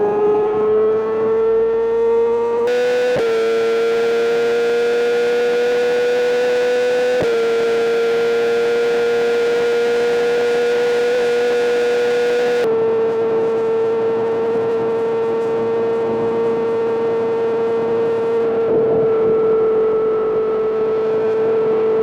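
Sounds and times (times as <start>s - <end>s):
motorcycle engine screaming: 0.0s - 18.6s.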